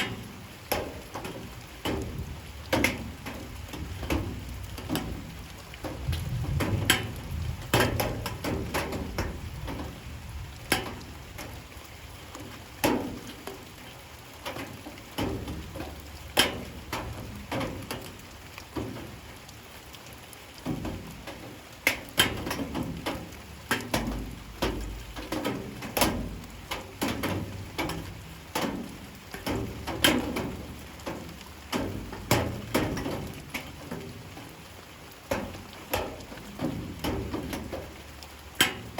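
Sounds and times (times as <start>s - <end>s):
light rain falling: 0.0s - 38.9s
raindrops tapping hard surface: 0.0s - 38.9s.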